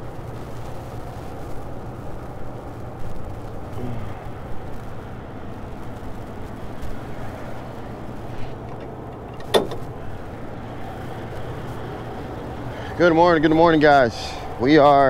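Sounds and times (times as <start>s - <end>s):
diesel trucks idling: 2.0s - 15.0s.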